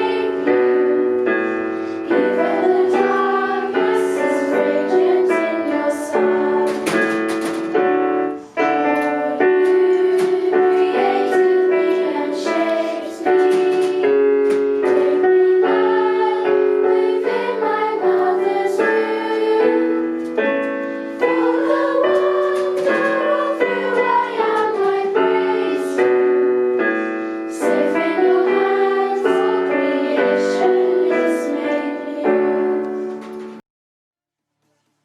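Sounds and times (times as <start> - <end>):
choir singing: 0.0 - 7.2, 8.3 - 33.2
piano accompaniment: 0.0 - 33.6.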